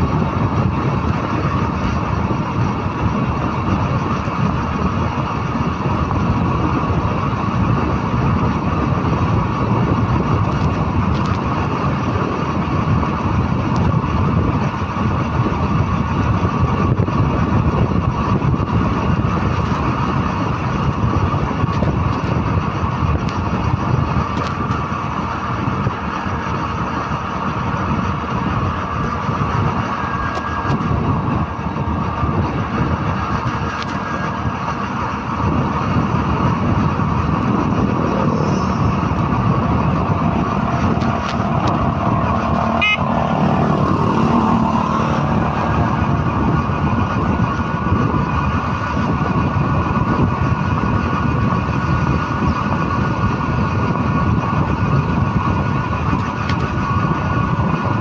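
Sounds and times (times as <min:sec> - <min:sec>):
road and wind noise: 0:00.0 - 0:58.0
vehicle engine running: 0:00.0 - 0:58.0.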